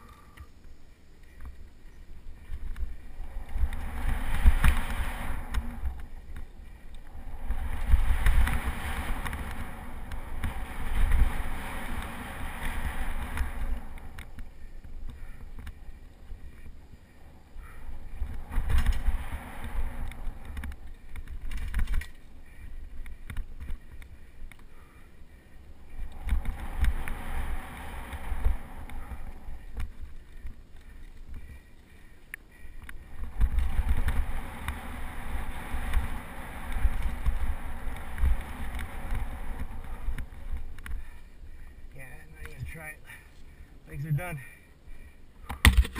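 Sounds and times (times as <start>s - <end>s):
bike rattles and clicks: 0.0s - 45.9s
wind buffeting microphone: 0.0s - 45.9s.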